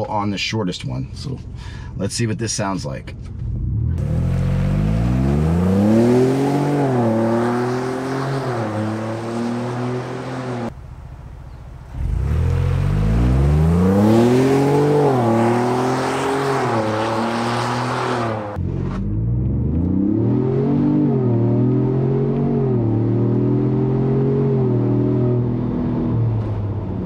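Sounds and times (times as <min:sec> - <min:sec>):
car engine revving through gear shifts: 0:03.6 - 0:10.7, 0:12.0 - 0:26.7.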